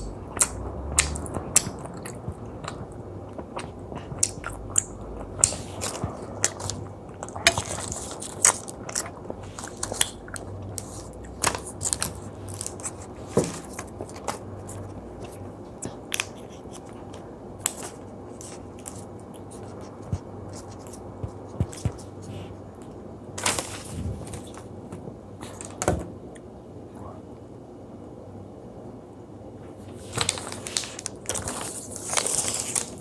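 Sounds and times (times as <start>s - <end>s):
chewing gummy sweets: 0.0s - 24.6s, 30.0s - 33.0s.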